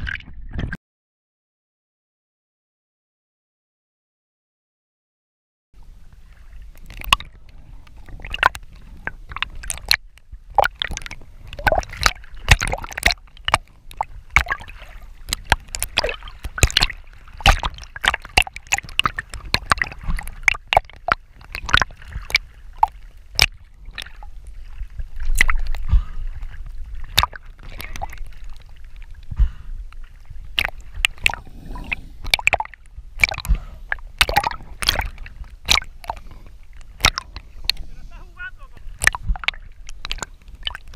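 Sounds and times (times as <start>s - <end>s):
sea water splashing against camera: 5.8s - 40.9s.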